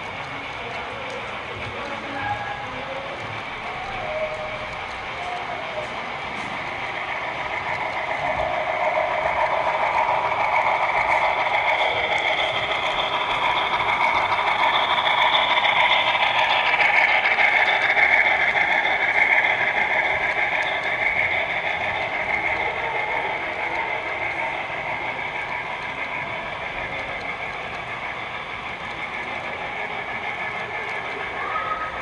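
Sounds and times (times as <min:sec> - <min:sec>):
model train rolling and rattling: 0:00.0 - 0:32.0.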